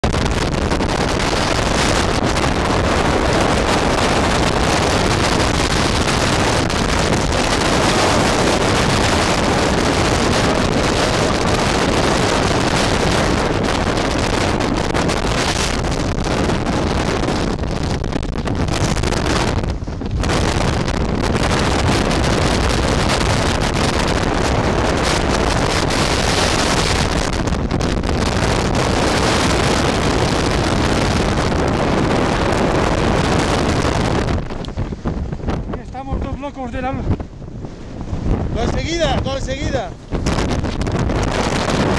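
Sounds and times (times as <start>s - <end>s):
wind roaring on microphone: 0.0s - 41.9s.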